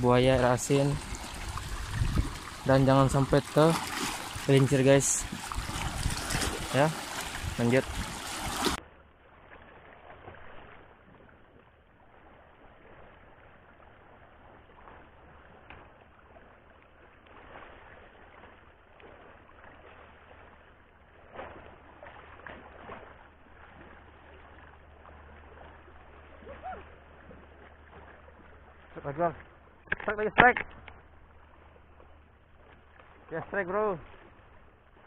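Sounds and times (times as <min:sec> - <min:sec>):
low steady rumble: 0:00.0 - 0:17.3, 0:18.2 - 0:35.0
water: 0:00.0 - 0:35.0
wind: 0:00.0 - 0:35.0.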